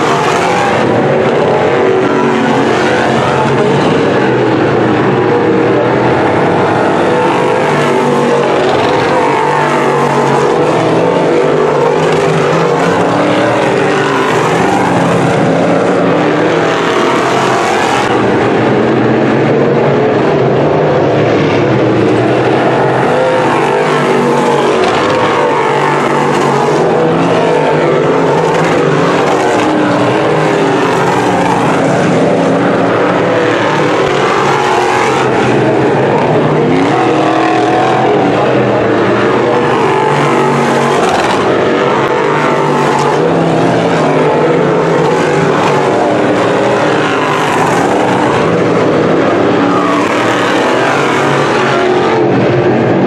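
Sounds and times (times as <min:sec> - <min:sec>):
race car engines at high revs: 0:00.0 - 0:53.0.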